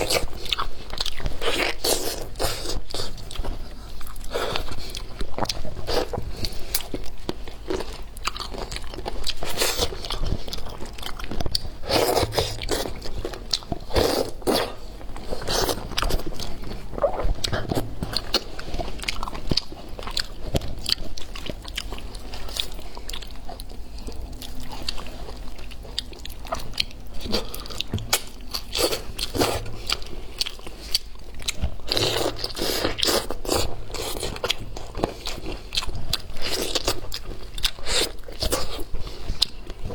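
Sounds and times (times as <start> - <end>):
crunchy wet chewing: 0.0 - 39.9.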